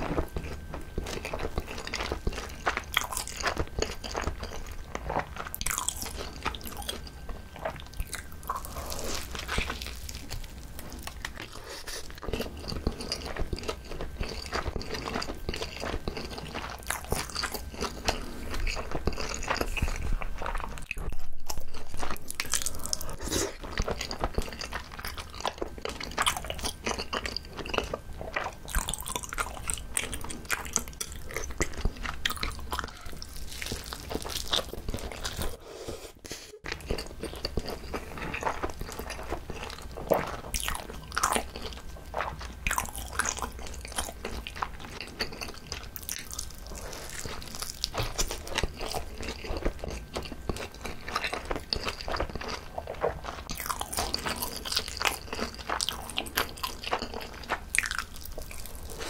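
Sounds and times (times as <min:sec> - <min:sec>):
chewing rice roll crunches: 0:00.0 - 0:35.6, 0:36.6 - 0:59.0.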